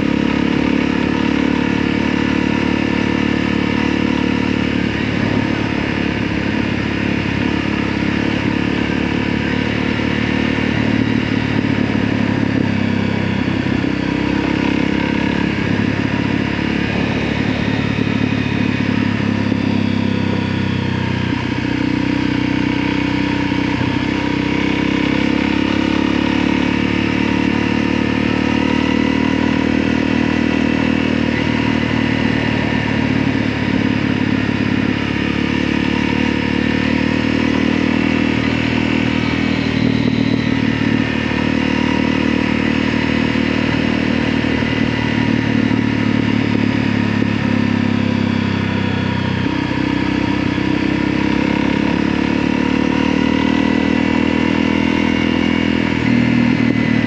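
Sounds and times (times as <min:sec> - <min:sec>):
engine running with held tones: 0:00.0 - 0:57.0.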